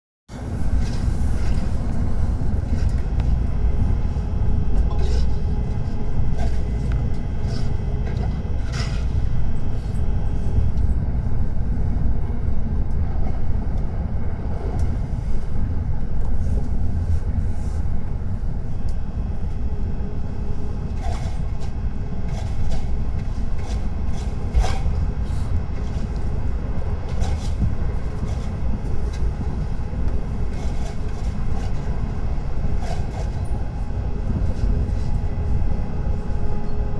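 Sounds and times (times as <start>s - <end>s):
train low rumble: 0.3s - 36.9s.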